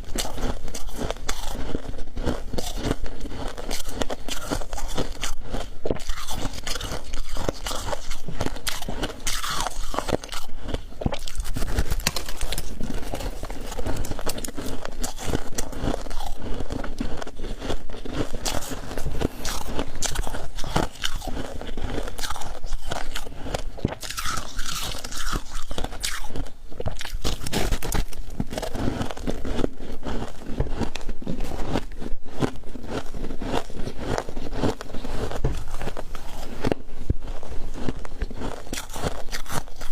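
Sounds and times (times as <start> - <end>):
frost being bitten and chewed: 0.0 - 39.9.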